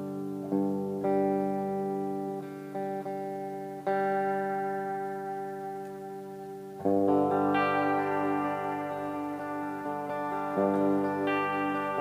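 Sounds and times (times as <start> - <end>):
electric guitar chords ringing: 0.0 - 12.0.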